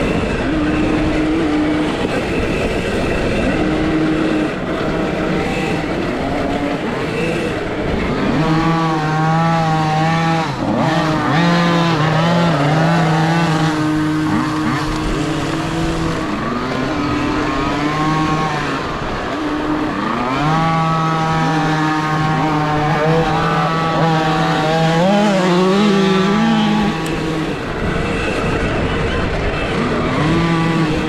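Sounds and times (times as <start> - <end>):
electric motorbike motor whining: 0.0 - 31.0
wind and ground noise: 0.0 - 31.0.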